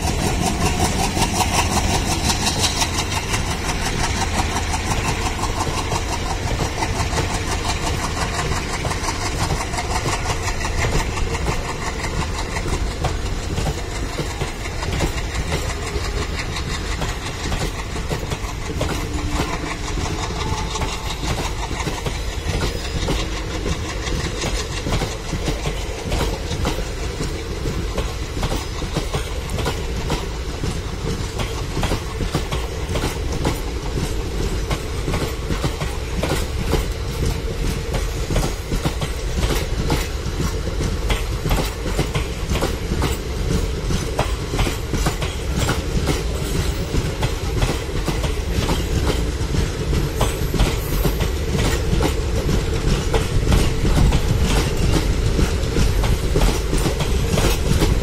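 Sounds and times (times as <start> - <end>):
diesel locomotive working: 0.0 - 58.0
train wheels clattering over rails: 0.0 - 58.0.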